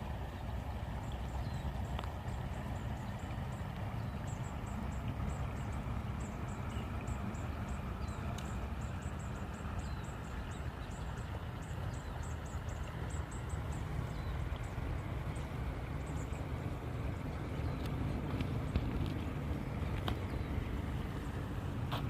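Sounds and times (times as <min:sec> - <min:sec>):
river rushing with low rumble: 0:00.0 - 0:22.0.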